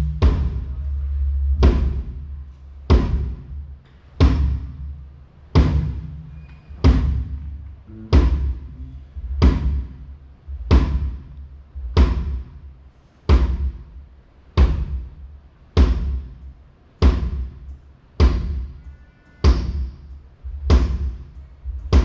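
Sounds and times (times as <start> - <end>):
kick drum thumps: 0.0 - 0.8, 1.5 - 5.0, 5.6 - 14.0, 14.6 - 15.2, 15.8 - 18.8, 19.4 - 22.0.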